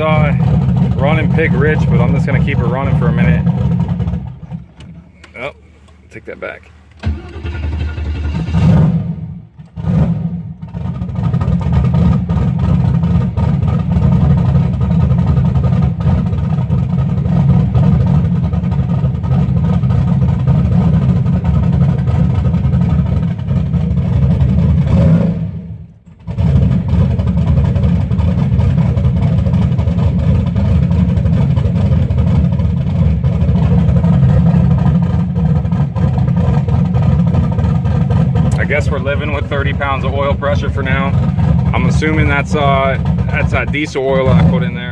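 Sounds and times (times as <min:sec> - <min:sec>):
car engine fast idle: 0:00.0 - 0:24.9, 0:25.8 - 0:44.9.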